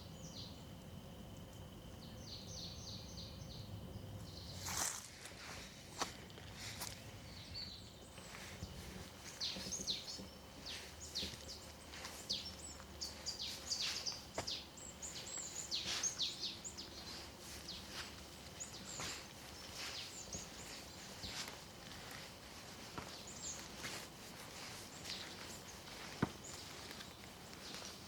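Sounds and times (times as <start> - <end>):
faint outdoor hiss: 0.0 - 28.0
songbirds chirping: 0.0 - 28.0.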